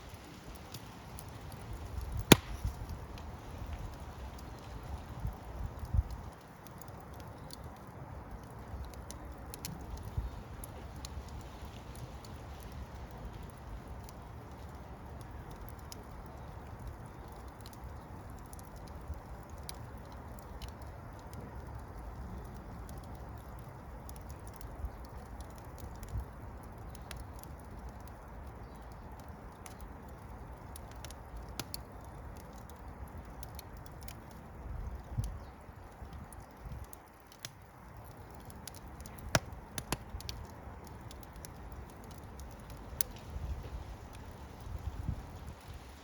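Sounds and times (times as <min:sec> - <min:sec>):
fire crackling: 0:00.0 - 0:46.0.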